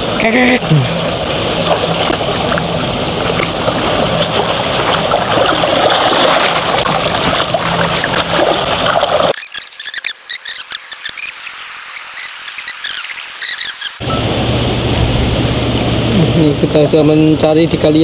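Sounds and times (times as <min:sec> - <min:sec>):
water splashing and sloshing: 0:00.0 - 0:16.2.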